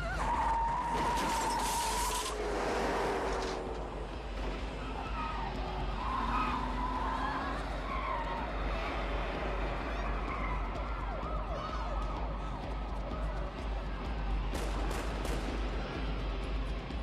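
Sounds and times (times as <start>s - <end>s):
police sirens wailing: 0.0s - 17.0s
street and traffic noise: 0.0s - 17.0s.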